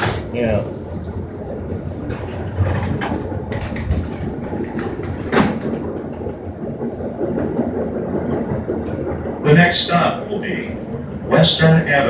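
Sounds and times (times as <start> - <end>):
knocks and rattles: 0.0 - 12.0
train wheels rumbling on track: 0.0 - 12.0.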